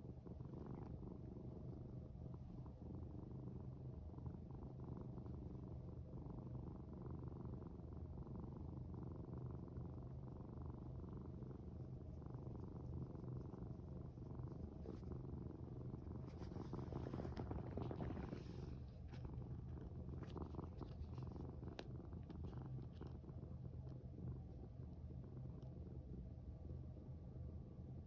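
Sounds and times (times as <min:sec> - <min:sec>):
cat purring: 0:00.0 - 0:26.4.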